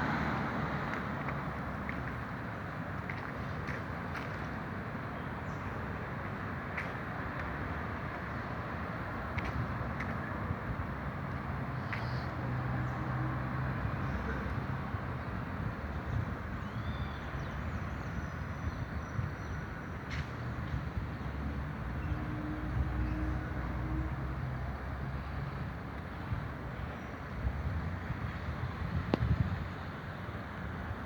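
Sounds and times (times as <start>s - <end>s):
low rumble of distant traffic: 0.0s - 31.0s.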